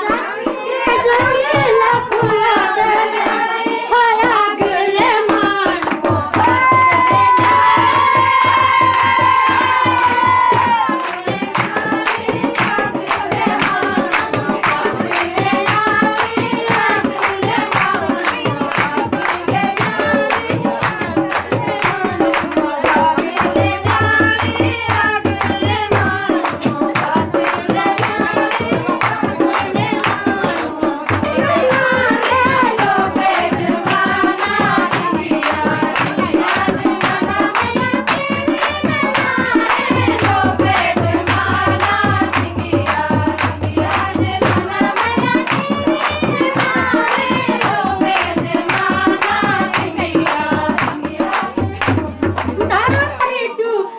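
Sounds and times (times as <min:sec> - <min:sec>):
rhythmic drum beat: 0:00.0 - 0:53.5.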